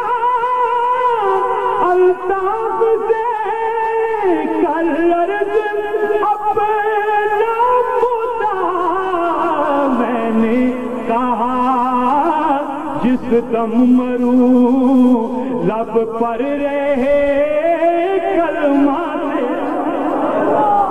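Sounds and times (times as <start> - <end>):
man singing ornamented notes: 0.0 - 20.9.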